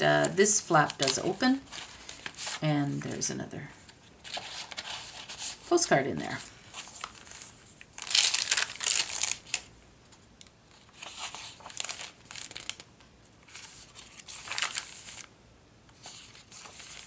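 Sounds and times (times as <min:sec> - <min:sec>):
paper rustling and crinkling: 0:00.2 - 0:03.2, 0:03.8 - 0:09.7, 0:10.7 - 0:12.8, 0:13.4 - 0:15.3, 0:16.0 - 0:17.0.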